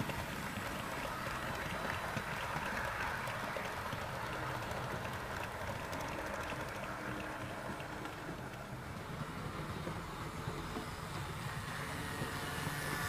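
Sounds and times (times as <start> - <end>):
model train wagons rolling: 0.0 - 13.0
wheels clicking over rail joints: 0.0 - 13.0.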